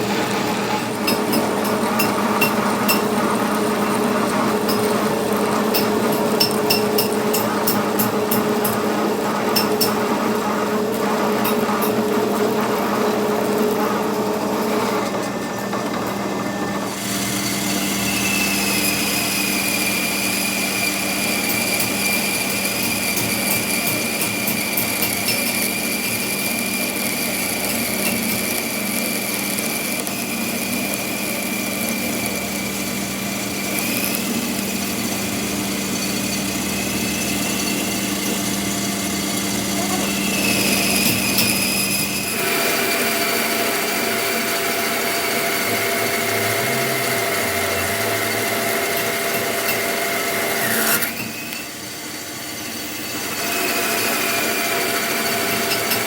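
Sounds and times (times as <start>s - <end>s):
power tool high whine: 0.0s - 56.0s.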